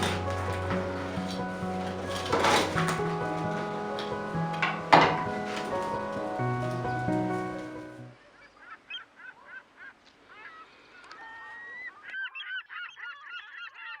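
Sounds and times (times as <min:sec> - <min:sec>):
flock of birds honking: 0:00.0 - 0:14.0.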